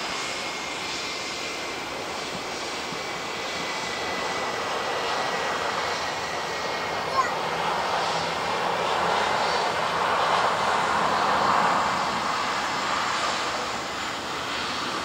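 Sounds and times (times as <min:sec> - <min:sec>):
jet engines rushing and whining: 0:00.0 - 0:15.0.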